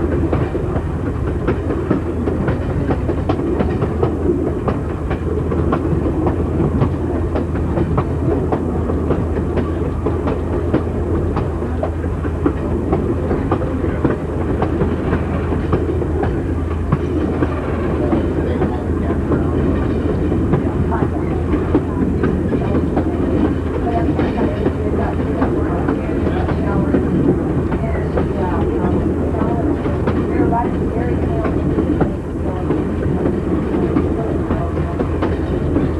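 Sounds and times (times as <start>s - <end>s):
train rumble: 0.0s - 35.9s
train wheels clicking over rail joints: 0.0s - 35.9s.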